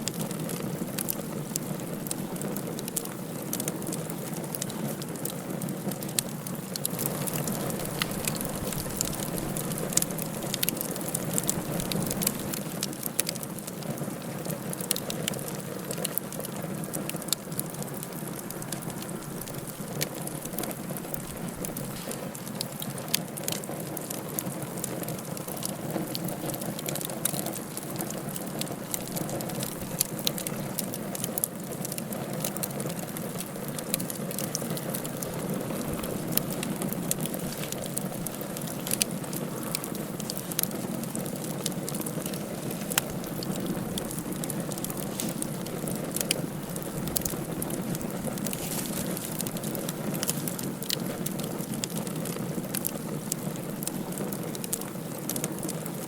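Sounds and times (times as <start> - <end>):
steady fire hiss: 0.0 - 56.0
wood fire crackling and popping: 0.0 - 56.0.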